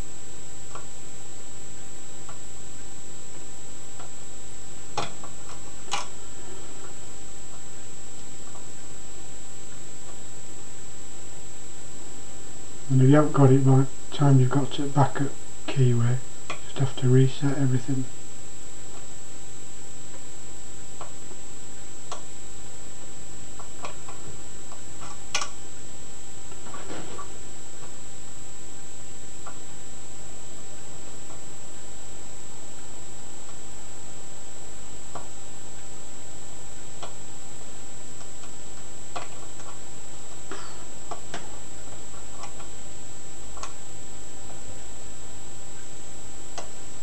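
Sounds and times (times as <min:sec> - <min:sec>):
faint high whine and hum: 0:00.0 - 0:47.0.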